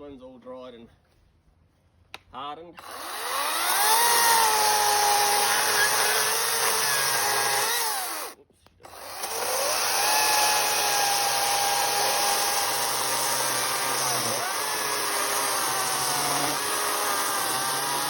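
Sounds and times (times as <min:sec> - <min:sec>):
chainsaw motor cutting wood: 0:02.8 - 0:18.0.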